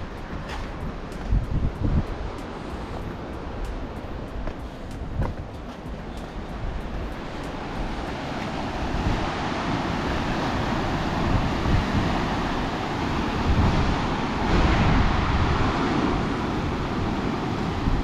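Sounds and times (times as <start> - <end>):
surf against rocks: 0.0 - 18.0
wind on microphone: 0.0 - 18.0.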